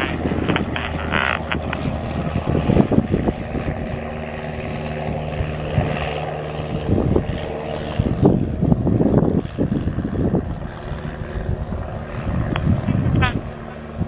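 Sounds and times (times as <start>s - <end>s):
propeller plane droning: 0.0s - 14.0s.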